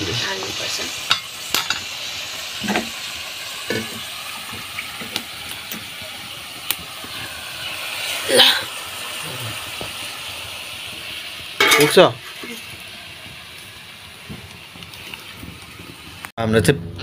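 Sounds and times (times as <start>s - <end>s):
curry bubbling and sizzling: 0.0s - 16.3s.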